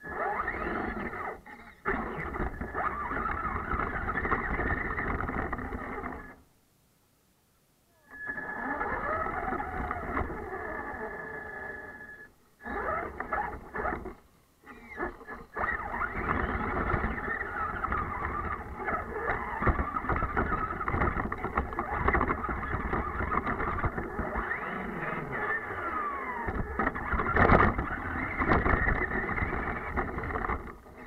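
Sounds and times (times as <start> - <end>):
rc car motor running: 0.0 - 6.4, 8.0 - 31.0
rattles and clicks: 0.5 - 6.4, 8.2 - 10.6, 12.6 - 31.0.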